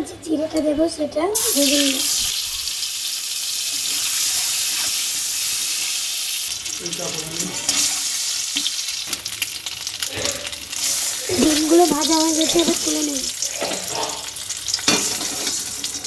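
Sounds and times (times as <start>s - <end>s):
eggs sizzling in hot oil: 1.4s - 16.0s
oil crackling and spitting: 1.4s - 16.0s.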